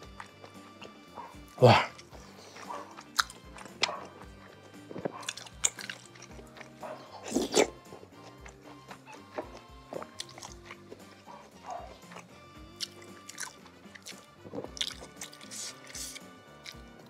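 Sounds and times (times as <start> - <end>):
person biting and chewing food: 0.0 - 17.0
soft background music: 0.0 - 17.0.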